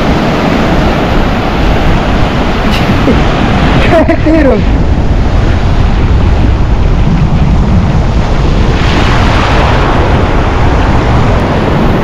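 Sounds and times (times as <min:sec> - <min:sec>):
surf washing over beach: 0:00.0 - 0:12.0
wave rushing in: 0:00.0 - 0:12.0
wind buffeting microphone: 0:00.0 - 0:12.0.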